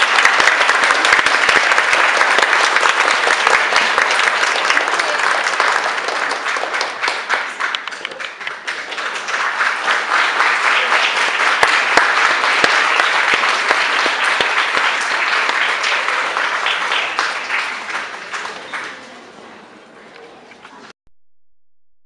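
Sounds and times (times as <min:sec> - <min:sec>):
audience applause: 0:00.0 - 0:19.4.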